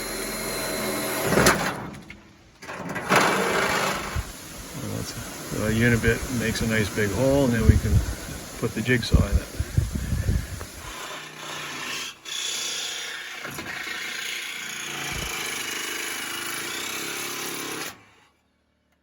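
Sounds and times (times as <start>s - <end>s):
electric jigsaw cutting: 0.0s - 1.8s, 3.0s - 18.3s.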